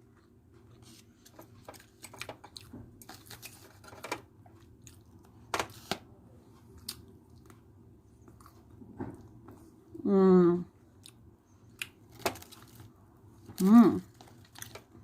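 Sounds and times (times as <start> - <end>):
person chewing food: 0.0 - 3.7, 4.4 - 5.8, 6.6 - 9.7, 10.9 - 15.0.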